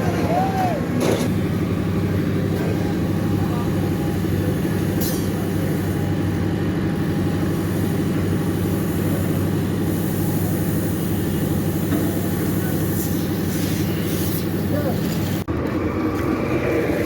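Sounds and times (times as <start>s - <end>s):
motor engine running steadily: 0.0s - 17.0s.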